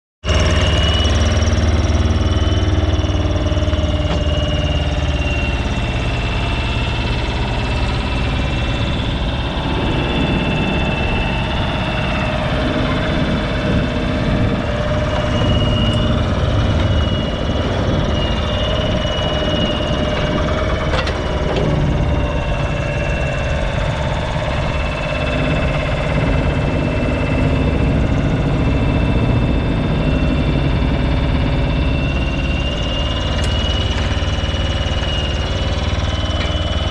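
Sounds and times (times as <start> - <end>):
digger engine running under load: 0.2 - 36.9
steady high whine: 0.3 - 36.9.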